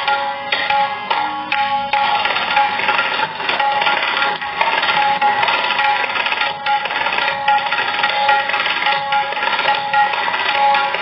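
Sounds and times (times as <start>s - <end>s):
tabla playing: 0.0s - 11.0s.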